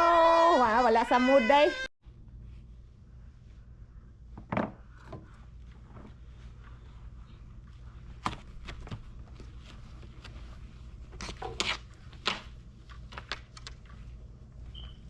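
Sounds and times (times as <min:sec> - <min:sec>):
steady low hum: 0:02.0 - 0:15.0.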